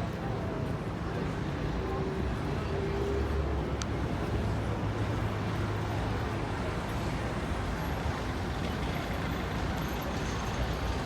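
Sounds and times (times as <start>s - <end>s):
faint crowd voices: 0.0s - 11.0s
road traffic rumble: 0.0s - 11.0s
wind: 0.0s - 11.0s.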